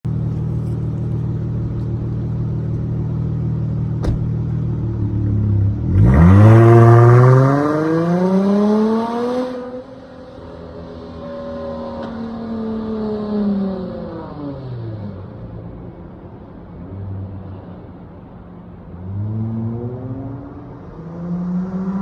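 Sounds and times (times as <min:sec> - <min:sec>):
car engine idling and revving: 0:00.1 - 0:22.0.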